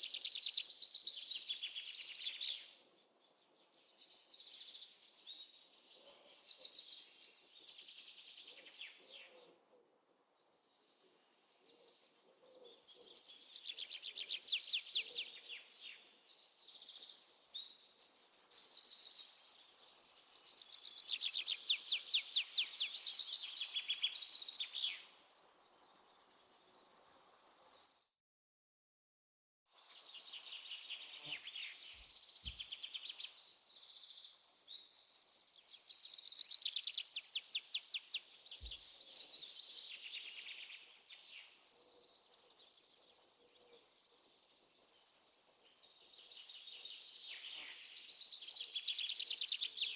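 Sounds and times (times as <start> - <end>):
songbirds singing: 0.0 - 9.7, 10.4 - 28.0, 29.8 - 49.9.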